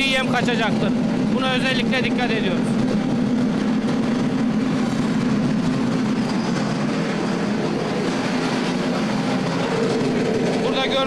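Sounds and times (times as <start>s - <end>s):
roller mill humming: 0.0s - 11.0s.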